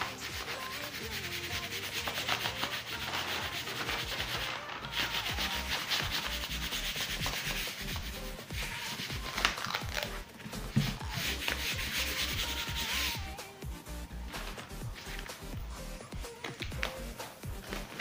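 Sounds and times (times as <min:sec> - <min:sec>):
hand rubbing plastic film: 0:00.0 - 0:13.4, 0:14.2 - 0:18.0.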